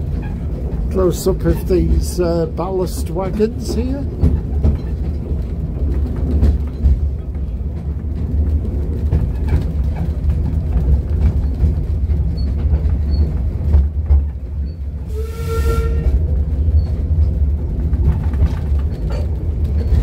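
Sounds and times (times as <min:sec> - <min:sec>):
wheels clicking on rails: 0:00.0 - 0:15.2, 0:15.8 - 0:20.0
railway carriage rumbling: 0:00.0 - 0:20.0.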